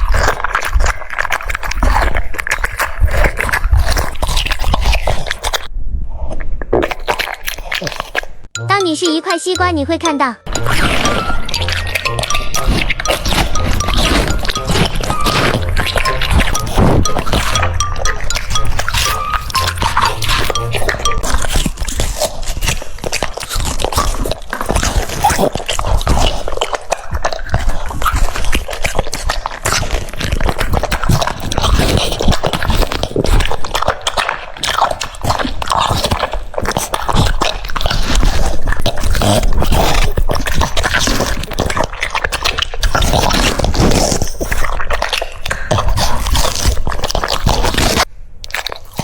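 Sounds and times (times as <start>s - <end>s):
dog chewing and crunching food: 0.0s - 8.5s, 10.5s - 49.0s.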